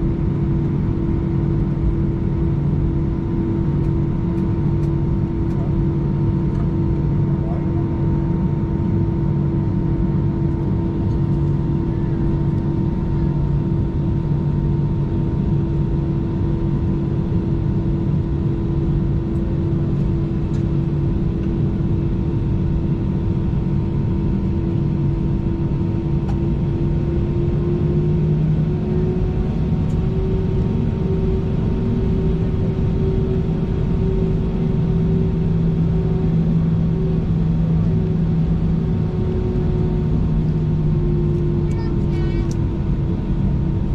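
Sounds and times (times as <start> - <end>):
jet engines idling in cabin: 0.0 - 43.9.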